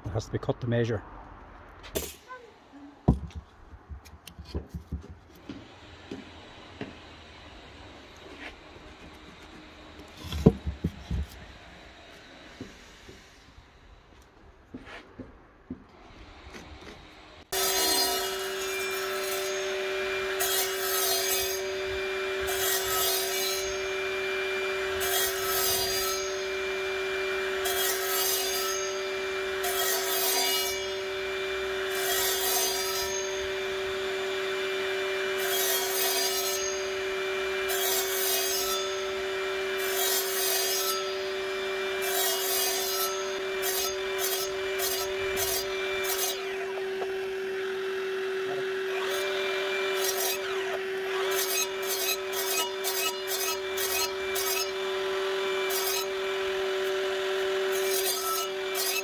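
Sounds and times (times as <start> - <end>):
miter saw cutting timber: 3.9 - 15.0, 15.9 - 59.0.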